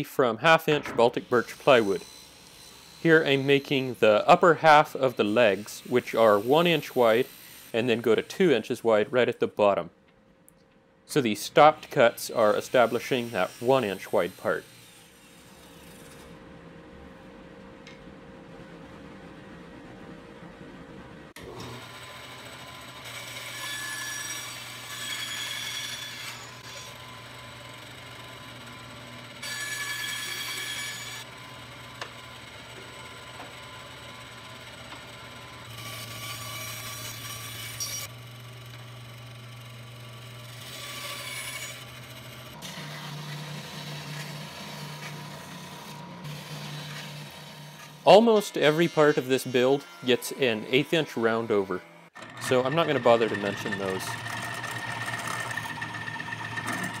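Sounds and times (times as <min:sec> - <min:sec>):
band saw cutting plywood: 0:00.6 - 0:09.1, 0:11.2 - 0:16.4, 0:21.4 - 0:57.0.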